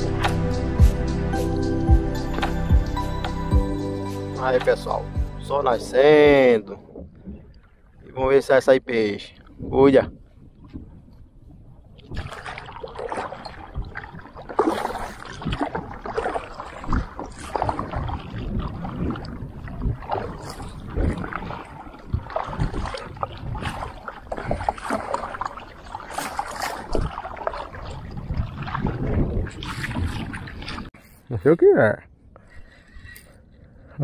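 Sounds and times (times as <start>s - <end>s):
water splashing and sloshing: 0.0s - 31.2s.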